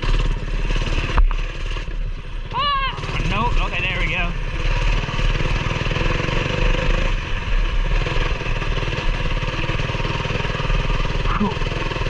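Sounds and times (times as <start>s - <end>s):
mini bike engine running: 0.0s - 12.0s.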